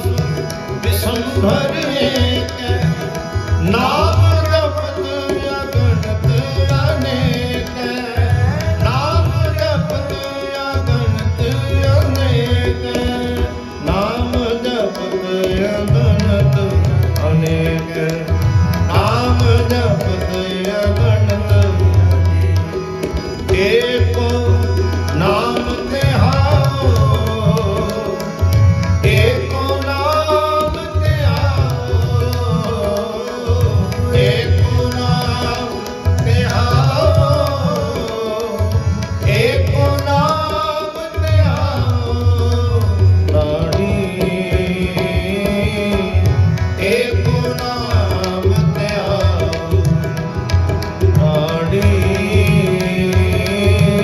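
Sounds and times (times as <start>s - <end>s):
harmoniums: 0.0s - 54.0s
man singing: 0.0s - 54.0s
tabla drums: 0.0s - 54.0s.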